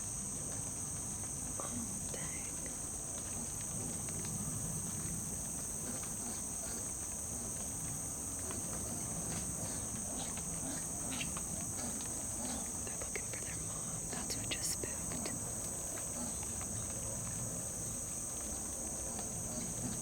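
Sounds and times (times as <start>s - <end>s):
faint ticks and rustles: 0.0s - 20.0s.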